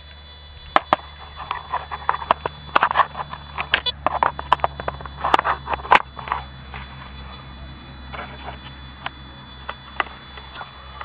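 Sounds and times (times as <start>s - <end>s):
soil scraping and crunching: 0.6s - 11.0s.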